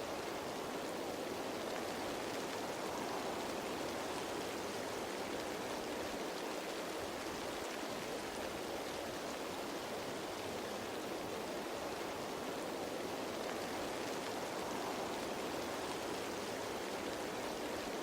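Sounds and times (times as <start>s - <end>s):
rain falling on leaves: 0.0s - 18.0s.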